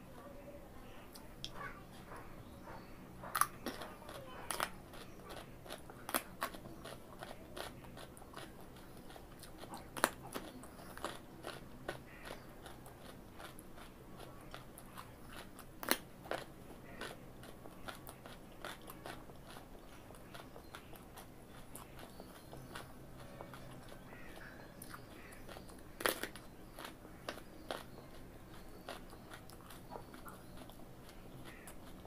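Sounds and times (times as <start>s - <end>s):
chewing crunches: 1.1s - 32.0s
carrot crunching: 3.2s - 32.0s.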